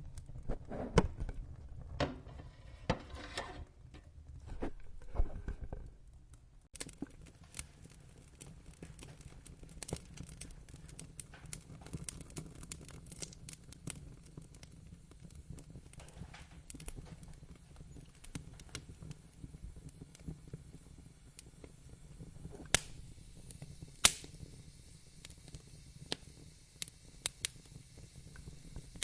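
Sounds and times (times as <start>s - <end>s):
low rumble of flame: 0.0s - 29.0s
wood fire crackling and popping: 0.0s - 29.0s.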